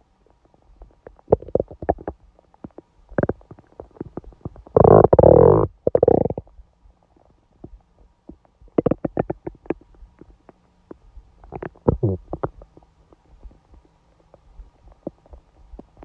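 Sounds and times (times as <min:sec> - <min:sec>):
stomach gurgling: 0:00.3 - 0:06.6, 0:07.2 - 0:16.0.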